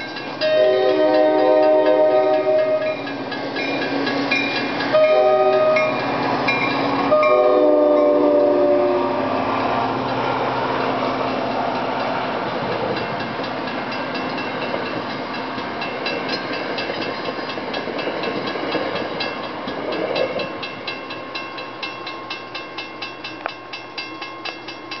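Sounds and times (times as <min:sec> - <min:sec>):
crossing signal bell dinging: 0:00.0 - 0:09.3, 0:11.8 - 0:25.0
train coaches rumbling past: 0:00.0 - 0:25.0.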